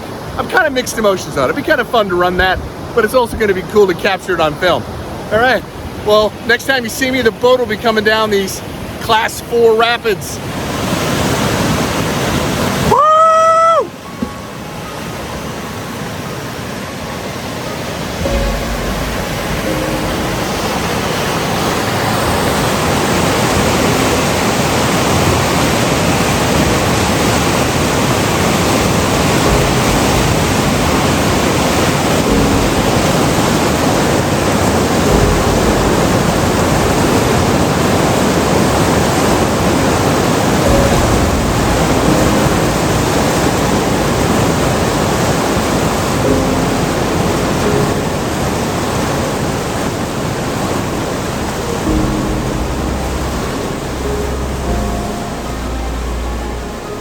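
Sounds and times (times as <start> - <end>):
whitewater rapids rushing: 0.0 - 57.0.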